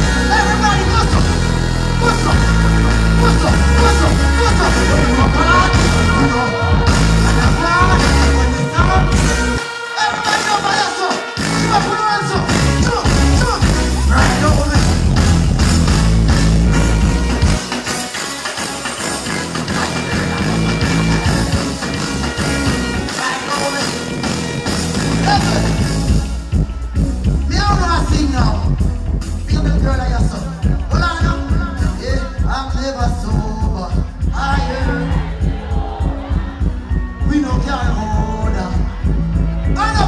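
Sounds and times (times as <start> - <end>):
dancehall music with heavy bass: 0.0 - 40.0
deejay chanting: 0.0 - 40.0.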